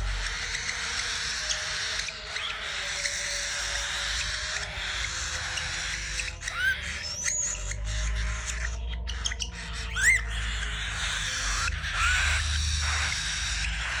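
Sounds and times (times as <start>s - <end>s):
cockatiel chirps: 0.0s - 14.0s.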